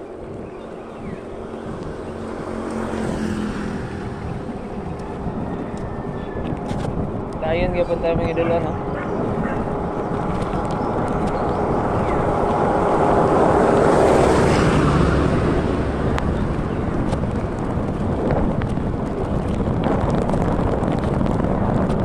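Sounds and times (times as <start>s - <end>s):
vehicle passing: 0.0s - 20.2s
wind rushing over microphone: 0.0s - 22.0s.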